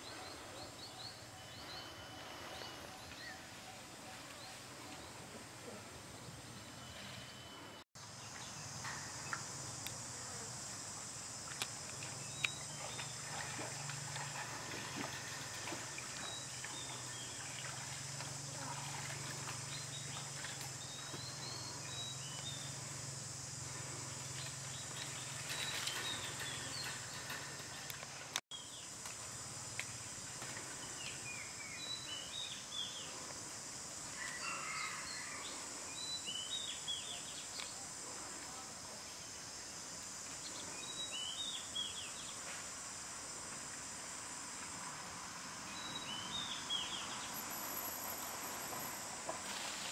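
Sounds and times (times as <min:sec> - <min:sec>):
high insect drone: 0:07.0 - 0:49.9.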